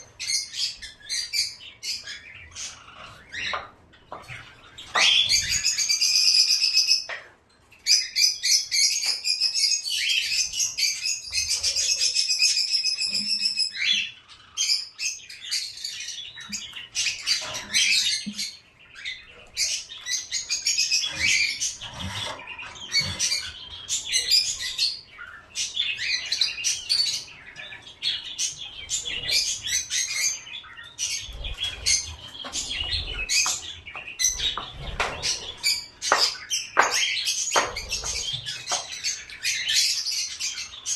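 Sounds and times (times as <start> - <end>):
birds chirping and chattering: 0.0 - 40.9.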